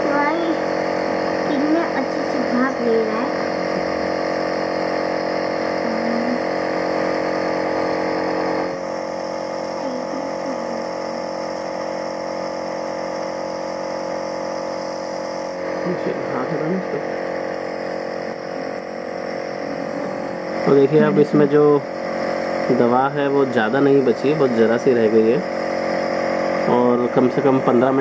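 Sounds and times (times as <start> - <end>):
nebulizer droning hum: 0.0 - 28.0.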